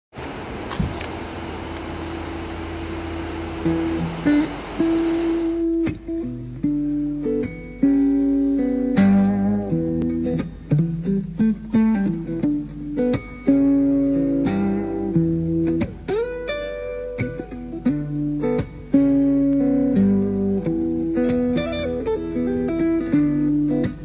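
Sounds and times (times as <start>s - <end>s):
acoustic guitar plucking: 0.5s - 24.0s.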